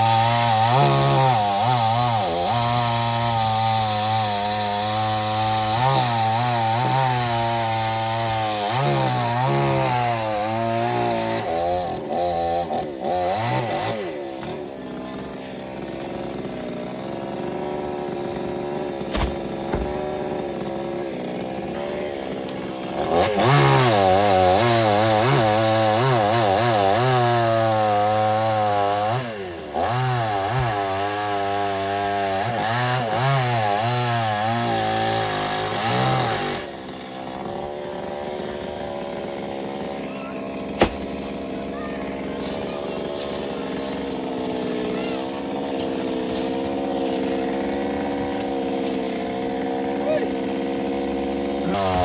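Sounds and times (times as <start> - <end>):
chainsaw cutting tree trunk: 0.0 - 52.0.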